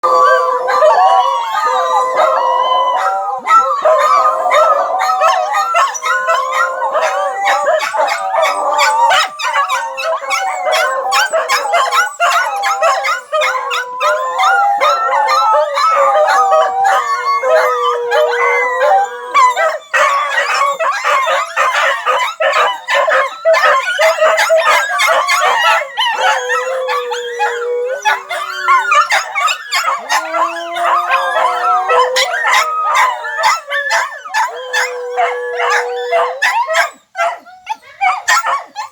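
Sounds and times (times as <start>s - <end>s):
dogs howling: 0.0s - 38.9s
dogs yipping: 0.0s - 38.9s.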